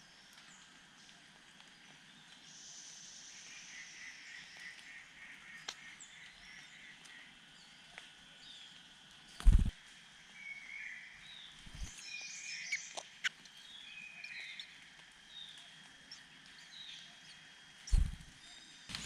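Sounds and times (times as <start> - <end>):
small birds chirping: 0.0 - 9.8, 10.4 - 19.0.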